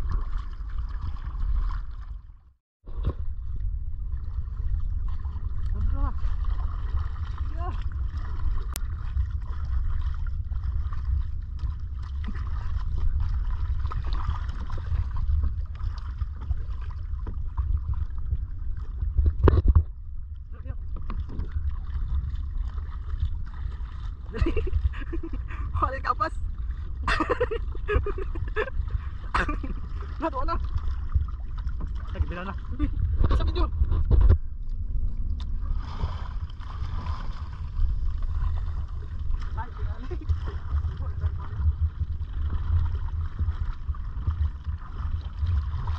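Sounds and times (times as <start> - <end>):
water splashing against hull: 0.0 - 45.9
wind rumble on microphone: 0.0 - 45.9.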